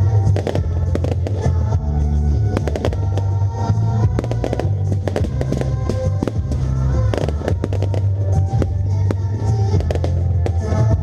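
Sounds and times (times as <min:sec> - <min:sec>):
fireworks bursting and crackling: 0:00.0 - 0:11.0
music: 0:00.0 - 0:11.0.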